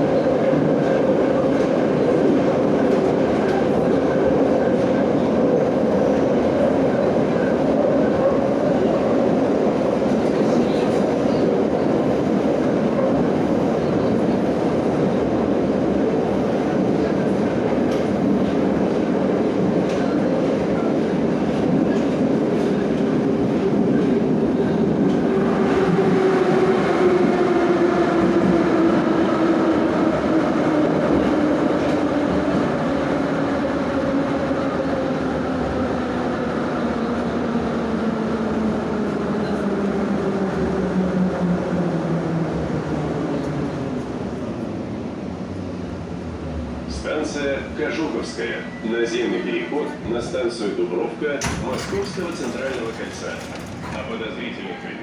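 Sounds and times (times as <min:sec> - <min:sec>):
train wheels rumbling on rails: 0:00.0 - 0:48.8, 0:49.8 - 0:55.0.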